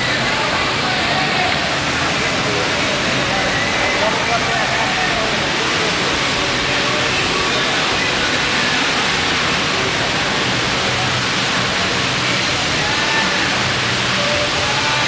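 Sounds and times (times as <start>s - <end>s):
steady loud rushing noise: 0.0s - 15.0s.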